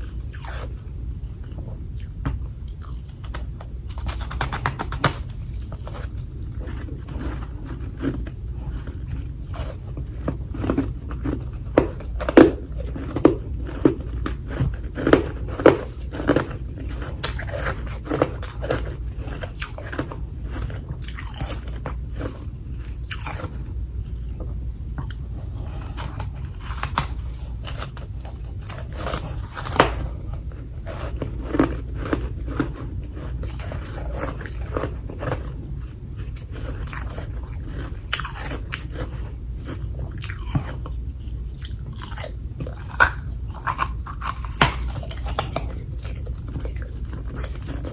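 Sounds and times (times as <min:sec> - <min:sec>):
person chewing: 0:00.0 - 0:47.9.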